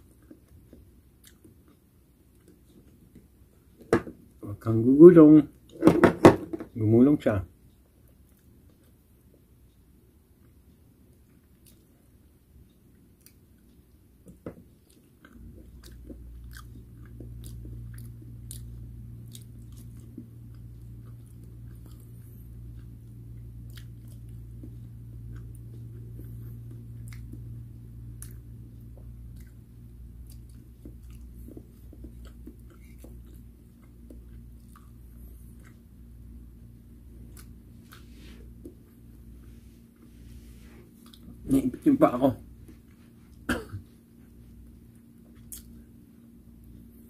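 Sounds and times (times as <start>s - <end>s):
chewing fried food: 0.0s - 3.9s, 7.7s - 43.5s, 44.2s - 47.0s
steady low hum: 0.0s - 47.0s.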